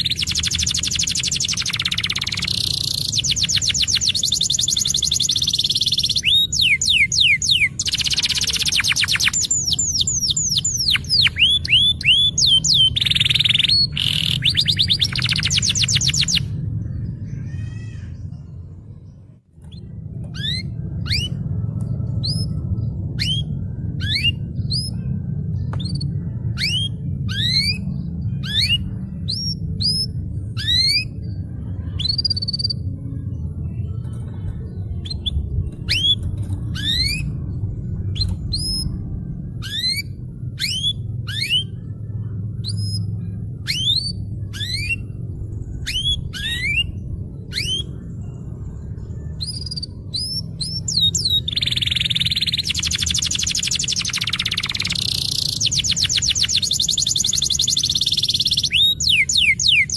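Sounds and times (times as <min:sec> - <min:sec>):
canary singing: 0:00.0 - 0:18.6, 0:19.6 - 0:33.0, 0:35.0 - 0:59.9
steady low hum: 0:00.0 - 0:59.9.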